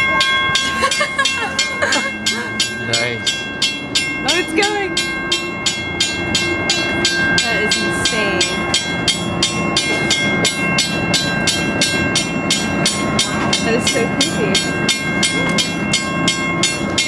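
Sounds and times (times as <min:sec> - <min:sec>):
warning bell ringing rapidly: 0:00.0 - 0:17.0.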